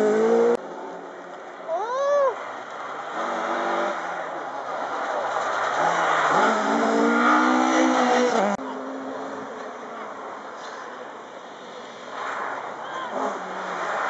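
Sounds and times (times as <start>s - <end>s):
rally car engine at full throttle: 0.0s - 14.0s.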